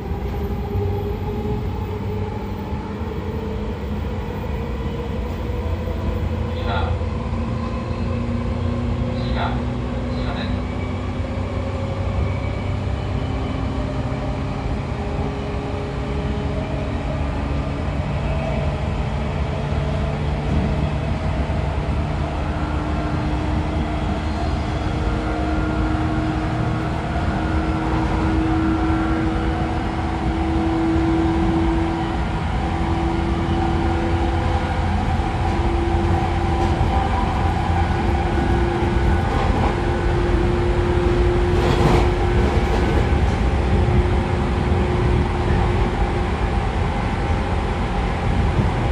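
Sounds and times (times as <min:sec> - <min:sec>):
train bogies rumbling on rails: 0:00.0 - 0:48.9.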